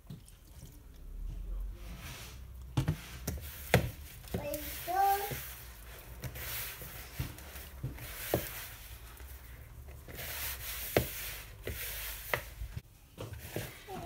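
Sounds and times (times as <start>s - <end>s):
hands kneading dough in bowl: 0.0s - 14.0s.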